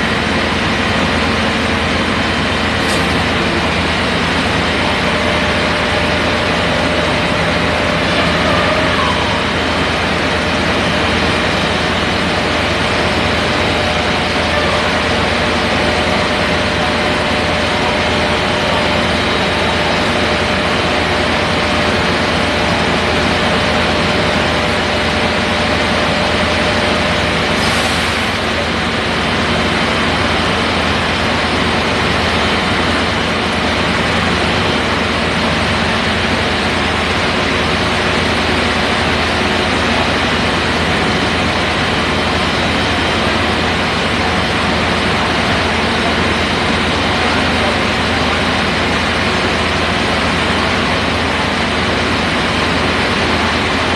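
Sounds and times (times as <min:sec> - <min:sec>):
fire truck engine idling: 0:00.0 - 0:53.9.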